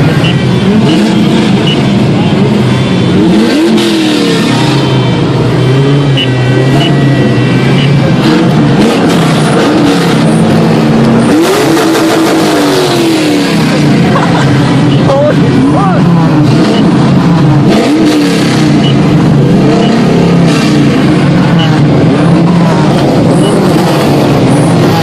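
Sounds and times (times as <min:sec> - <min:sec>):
many car engines revving: 0:00.0 - 0:25.0.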